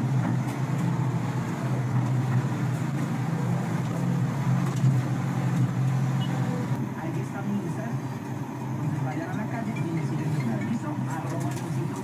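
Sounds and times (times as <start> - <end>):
vehicle engine and road drone: 0.0 - 12.0.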